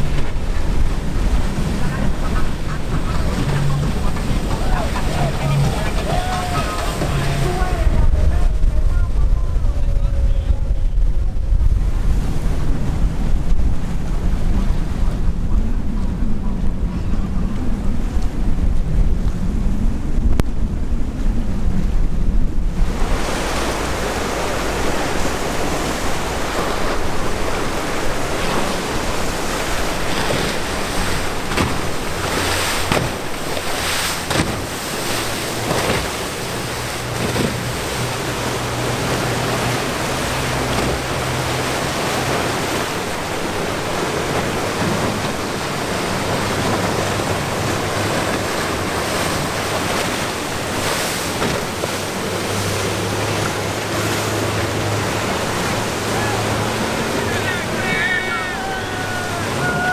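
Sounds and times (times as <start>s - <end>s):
boat engine droning: 0.0s - 59.9s
surf breaking and washing: 0.0s - 59.9s
wind buffeting microphone: 0.0s - 59.9s.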